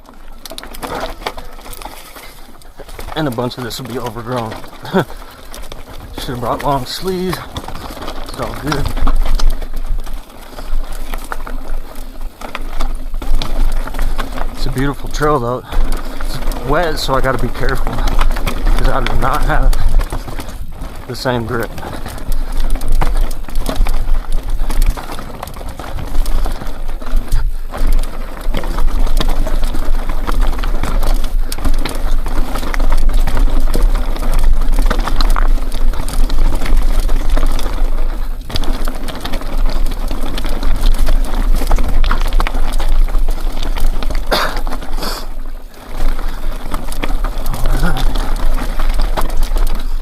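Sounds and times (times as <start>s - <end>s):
bike rattling over bumps: 0.0s - 50.0s.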